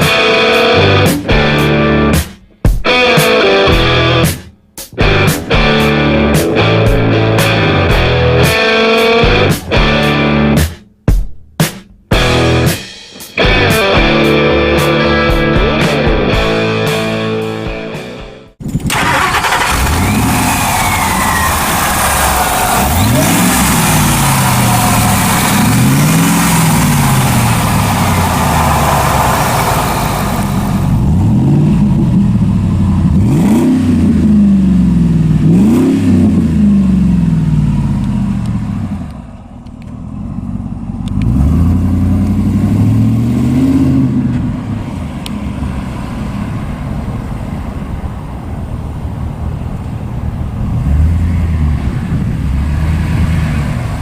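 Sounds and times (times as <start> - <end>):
engine revving: 0.0 - 2.3, 5.0 - 10.7, 12.2 - 48.2, 50.2 - 54.0.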